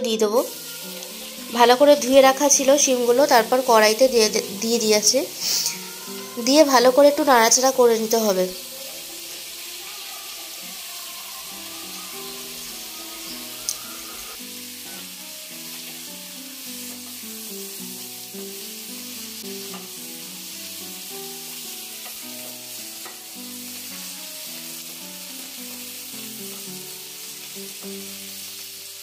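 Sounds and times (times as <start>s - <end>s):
background music: 0.0s - 29.0s
beans sizzling in oil: 0.1s - 29.0s.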